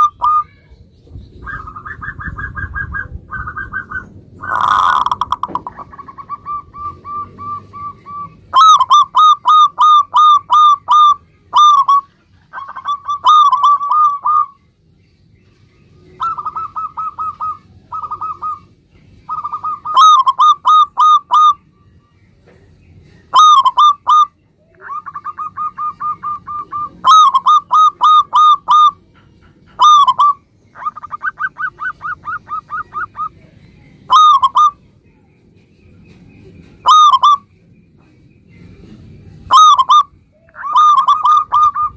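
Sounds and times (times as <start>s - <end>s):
dove cooing song: 0.0s - 14.6s, 15.9s - 35.0s, 35.9s - 41.9s.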